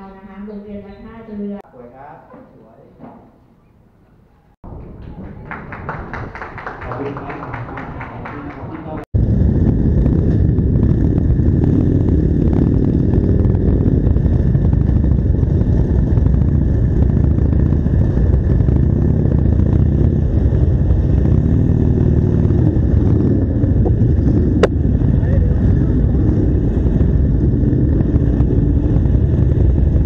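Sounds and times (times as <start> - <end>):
motorcycle engines running: 4.7 - 30.0.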